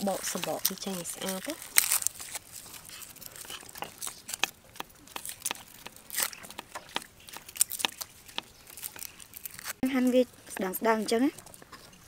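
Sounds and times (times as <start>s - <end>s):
garlic skins crackling and tearing: 0.0s - 12.0s.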